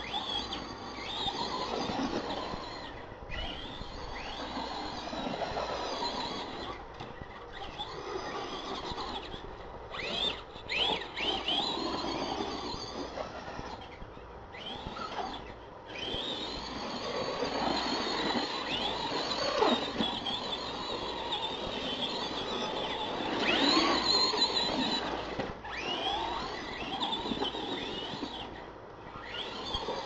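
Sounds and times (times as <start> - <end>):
toy truck electric motors whining: 0.0 - 30.0.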